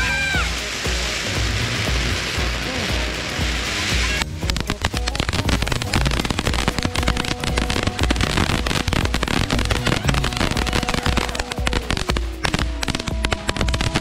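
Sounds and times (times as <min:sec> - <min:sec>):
fireworks crackling and hissing: 0:00.0 - 0:14.0
music with steady beat: 0:00.0 - 0:14.0.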